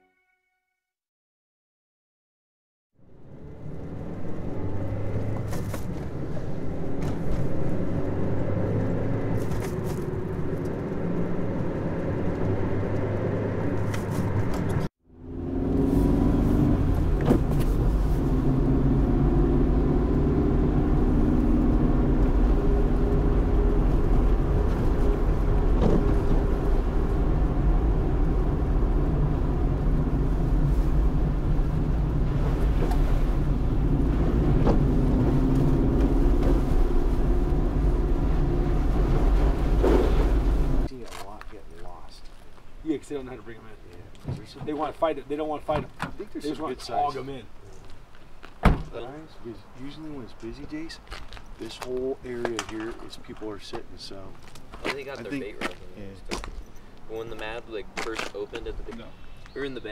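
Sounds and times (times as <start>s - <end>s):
car engine and tyre rumble: 3.0s - 59.9s.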